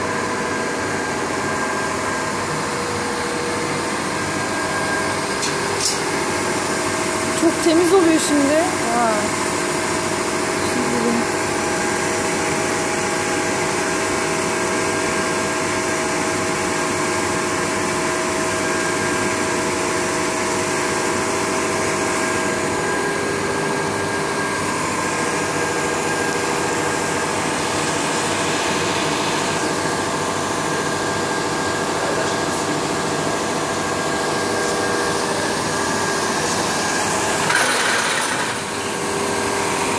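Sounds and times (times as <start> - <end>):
packaging machine blower noise: 0.0 - 39.9.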